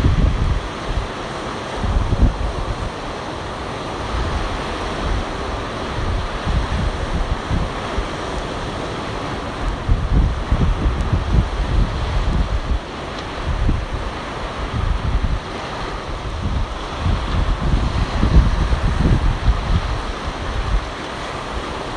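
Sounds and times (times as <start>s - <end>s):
ocean surf rushing: 0.0s - 21.9s
wind buffeting microphone: 0.0s - 21.9s.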